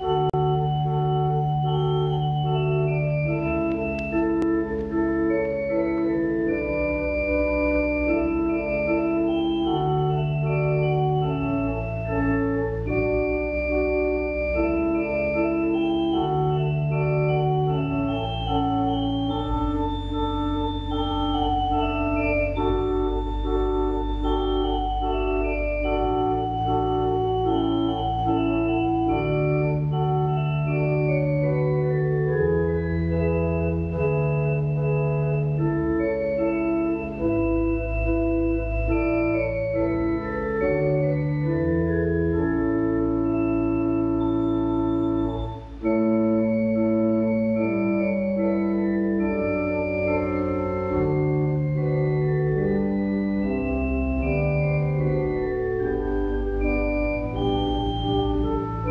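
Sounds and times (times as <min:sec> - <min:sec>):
organ music: 0:00.0 - 0:58.9.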